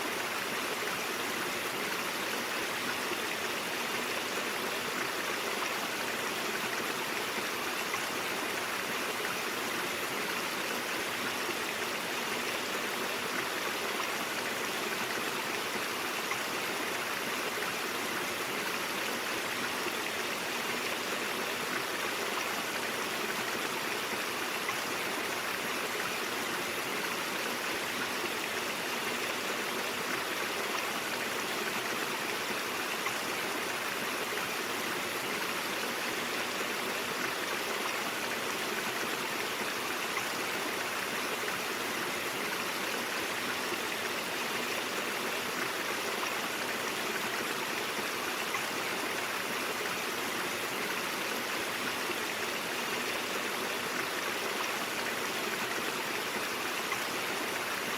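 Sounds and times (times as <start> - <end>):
stream flowing over rocks: 0.0 - 57.9.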